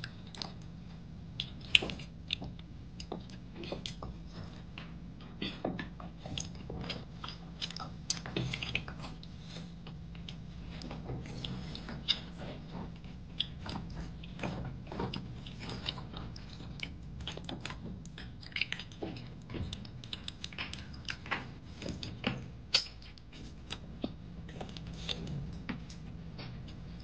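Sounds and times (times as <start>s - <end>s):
child chewing and smacking: 0.0s - 27.0s
low steady hum: 0.0s - 27.0s.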